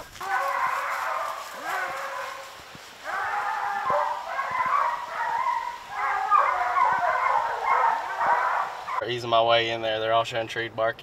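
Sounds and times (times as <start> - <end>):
hounds baying: 0.0 - 9.0.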